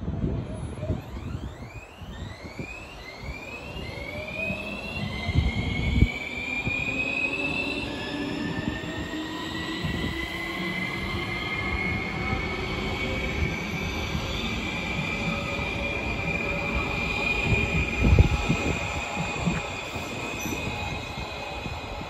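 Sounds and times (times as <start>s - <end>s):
train whine rising in pitch: 0.0s - 22.0s
wheels rumbling on rail: 0.0s - 22.0s.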